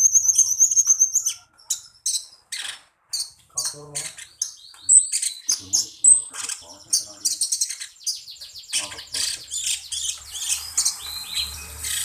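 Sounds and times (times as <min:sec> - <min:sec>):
songbird chirps and trills: 0:00.0 - 0:12.0.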